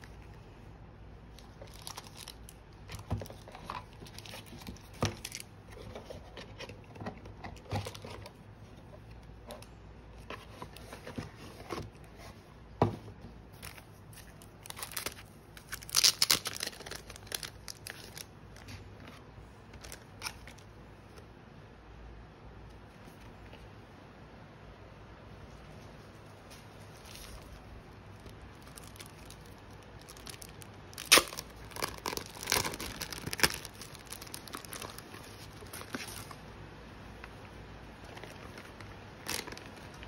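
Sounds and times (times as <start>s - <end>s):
plastic sleeves crinkling: 1.3s - 12.5s, 13.5s - 21.2s, 25.5s - 40.0s.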